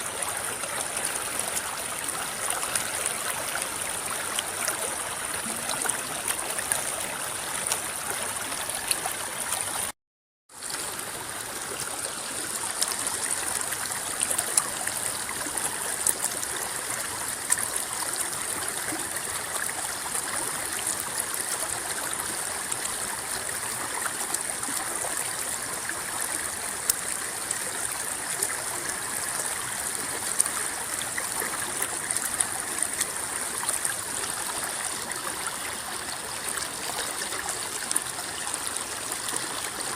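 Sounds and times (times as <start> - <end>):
river water babbling: 0.0 - 9.9, 10.5 - 39.9.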